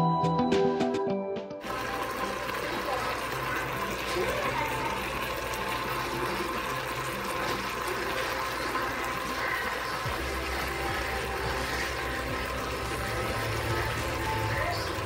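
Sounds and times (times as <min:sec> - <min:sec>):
meat sizzling in a pot: 0:01.6 - 0:15.0.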